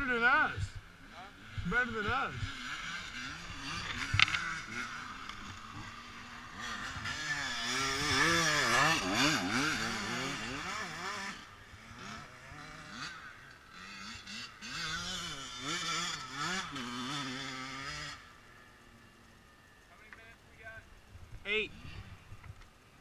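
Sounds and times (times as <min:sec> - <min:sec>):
atv engines revving: 0:00.0 - 0:23.0.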